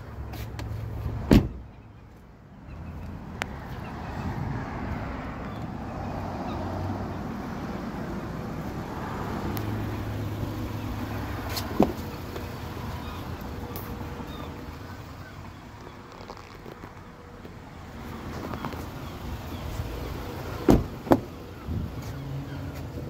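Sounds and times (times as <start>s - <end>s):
low vehicle engine hum: 0.0s - 23.0s
outdoor noise: 0.0s - 23.0s.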